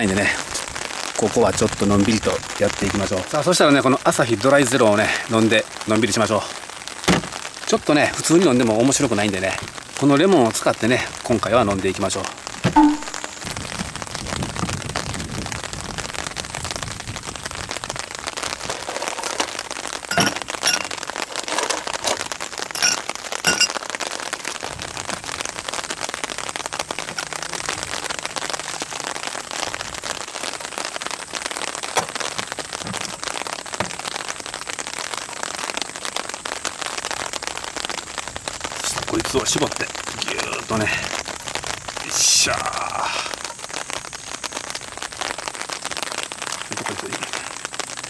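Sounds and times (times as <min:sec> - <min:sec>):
light rain pattering: 0:00.0 - 0:48.0.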